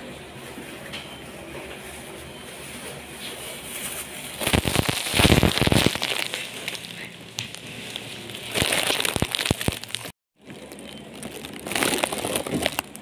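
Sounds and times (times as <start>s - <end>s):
plastic glove crinkling: 1.9s - 13.0s.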